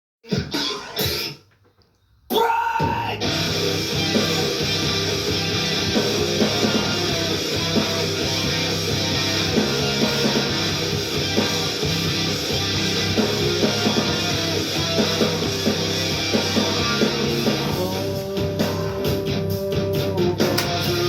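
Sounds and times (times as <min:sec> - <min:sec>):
distorted electric guitar: 0:03.0 - 0:21.0.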